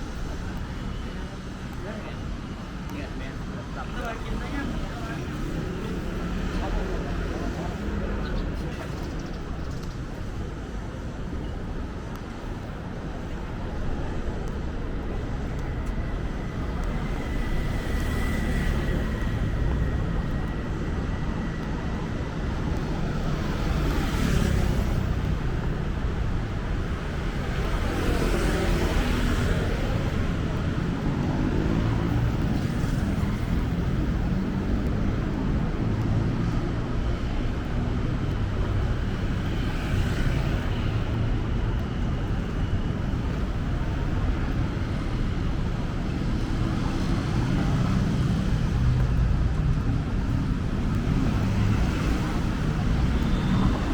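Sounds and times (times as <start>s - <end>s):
traffic rumble: 0.0s - 53.9s
vehicles passing close by: 0.0s - 53.9s.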